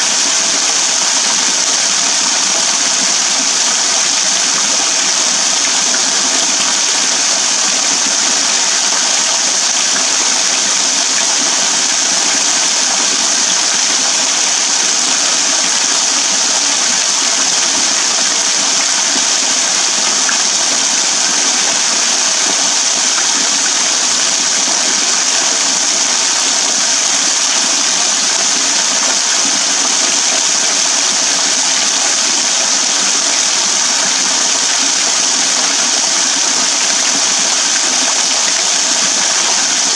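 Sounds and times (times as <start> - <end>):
small waterfall splashing into pool: 0.0 - 39.9.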